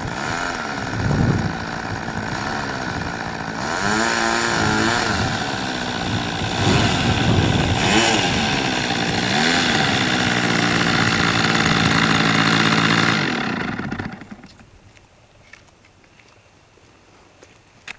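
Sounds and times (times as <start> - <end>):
model airplane engine: 0.0 - 14.7.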